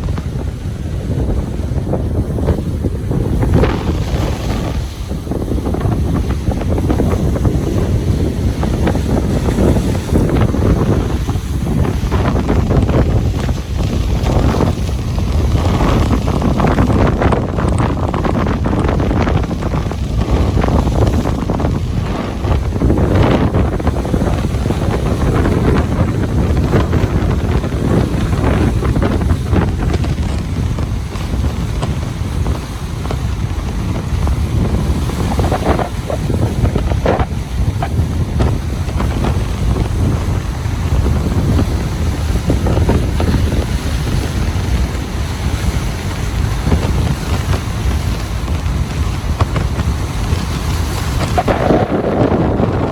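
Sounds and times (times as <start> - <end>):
ocean surf washing on beach: 0.0 - 52.9
wind rumble on microphone: 0.0 - 52.9.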